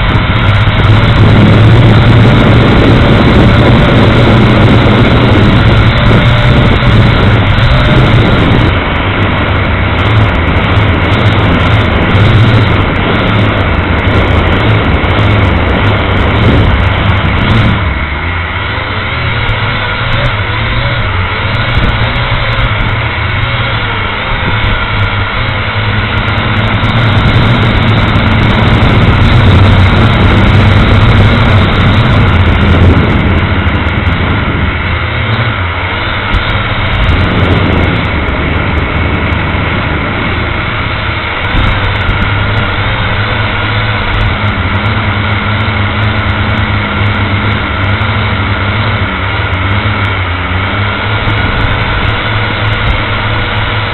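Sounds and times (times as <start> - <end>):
drone propellers buzzing: 0.0 - 53.9.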